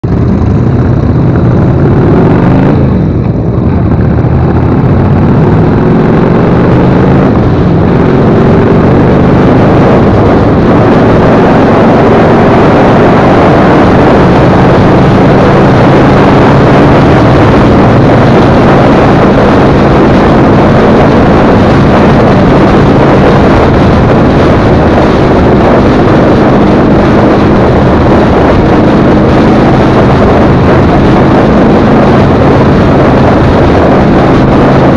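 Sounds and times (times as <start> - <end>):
motorcycle engine accelerating: 0.0 - 34.9
wind rush on microphone: 0.0 - 34.9.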